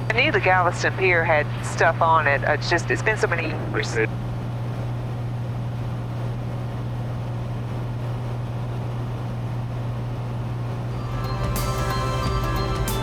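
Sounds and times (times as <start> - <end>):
plane engine and propeller drone: 0.0 - 13.0.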